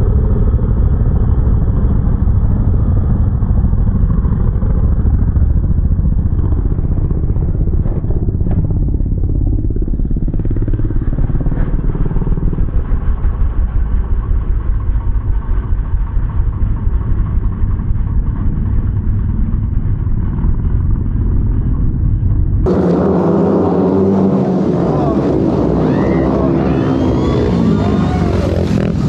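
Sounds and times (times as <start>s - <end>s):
muffled motorcycle engines rumbling: 0.0s - 29.0s.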